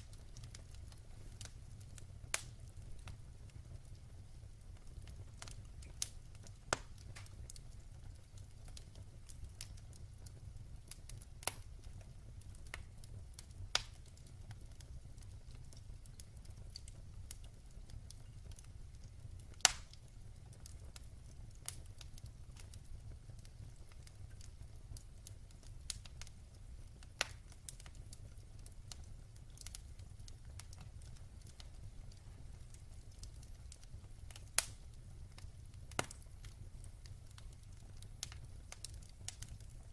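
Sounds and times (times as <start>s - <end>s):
wood fire burning: 0.0s - 39.9s.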